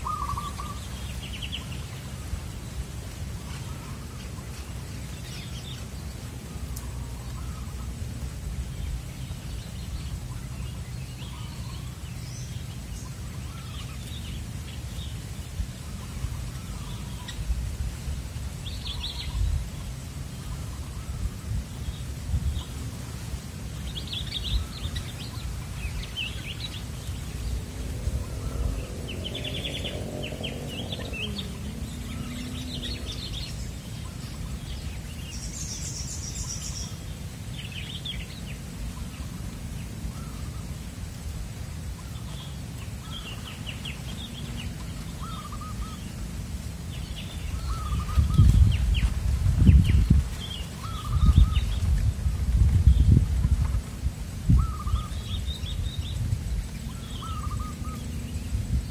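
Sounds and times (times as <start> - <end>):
low outdoor rumble: 0.0 - 58.9
wild birds chirping: 0.0 - 58.9.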